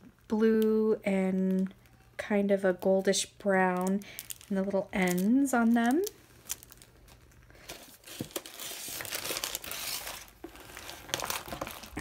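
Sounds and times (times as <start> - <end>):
plastic and paper packaging crinkling: 0.6 - 12.0.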